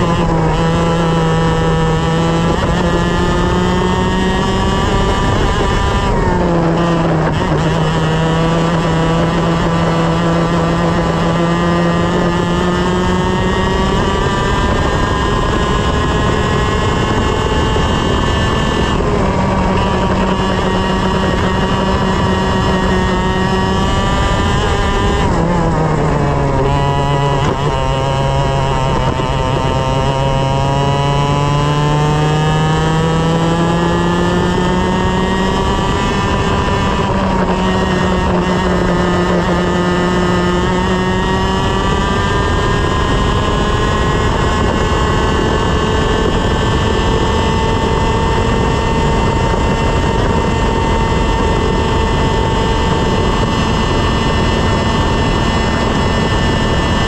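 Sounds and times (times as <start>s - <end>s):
kart engine at race pace: 0.0s - 57.0s.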